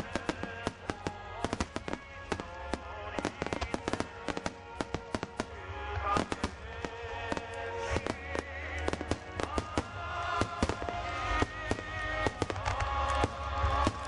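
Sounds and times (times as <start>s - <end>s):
firework shells bursting: 0.0s - 14.0s
music with held notes: 0.0s - 14.0s.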